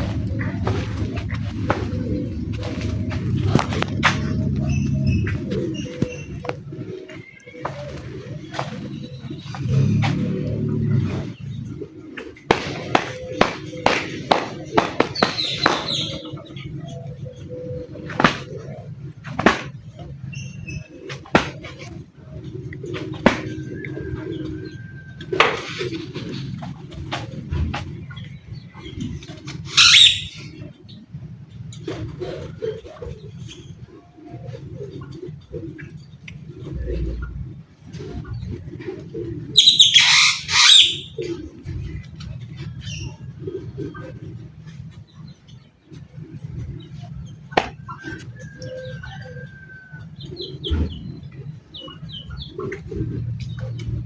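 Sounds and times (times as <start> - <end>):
birds cooing: 0.0 - 54.0.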